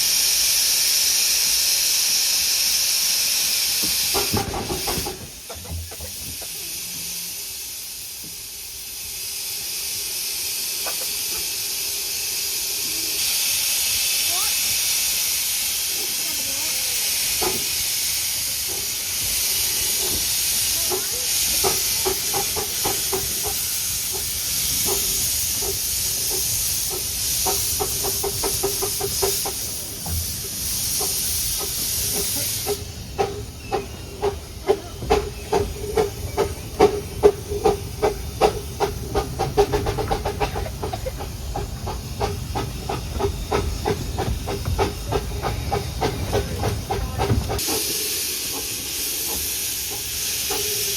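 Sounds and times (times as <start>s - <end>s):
steam hiss: 0.0s - 50.9s
steam locomotive exhaust beats: 0.0s - 50.9s.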